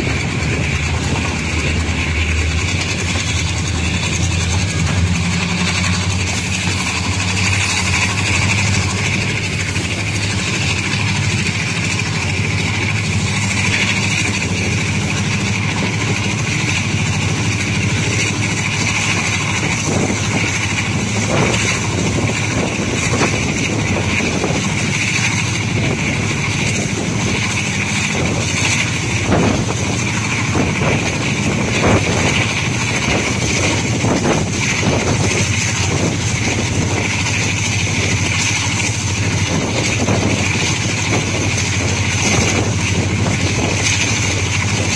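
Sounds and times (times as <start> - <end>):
rushing air: 0.0 - 44.9
train wheels rumbling on rails: 0.0 - 44.9.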